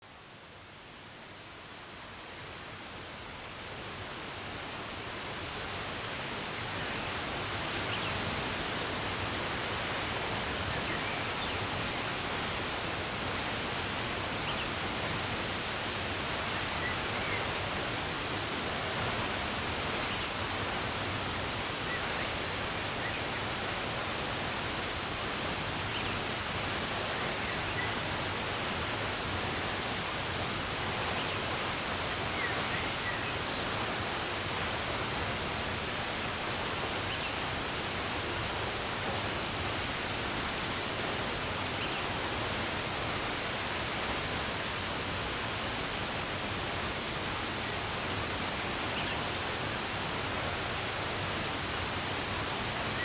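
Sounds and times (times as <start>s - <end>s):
running water rushing: 1.4s - 53.0s.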